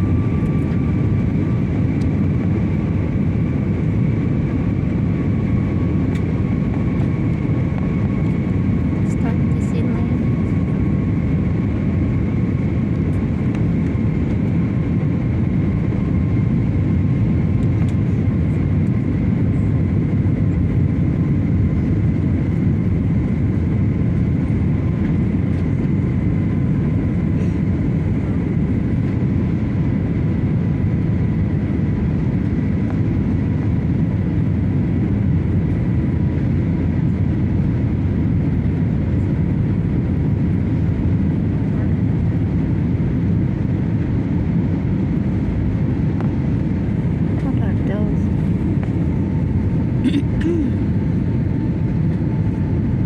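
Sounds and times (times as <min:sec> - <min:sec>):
high engine whine: 0:00.0 - 0:53.0
jet cabin engine rumble: 0:00.0 - 0:53.0.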